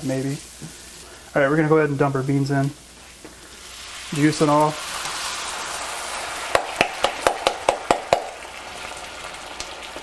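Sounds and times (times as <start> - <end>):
beans hissing in hot oil: 0.0 - 10.0.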